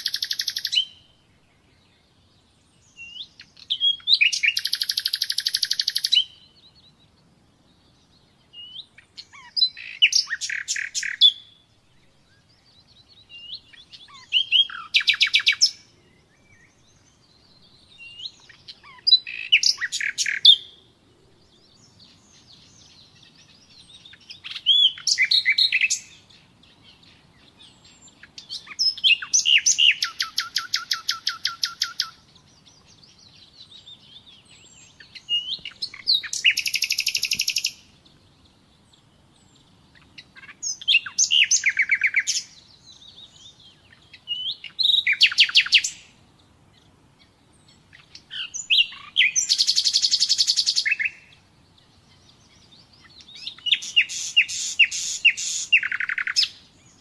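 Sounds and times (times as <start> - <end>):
nightingale singing trills: 0.0 - 57.0.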